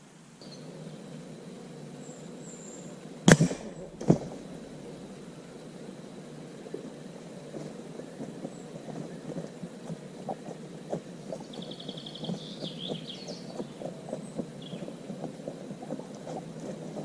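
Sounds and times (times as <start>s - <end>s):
low woodland rumble: 0.0s - 17.0s
songbird trilling: 0.4s - 17.0s
small clicks and crackles: 3.2s - 17.0s.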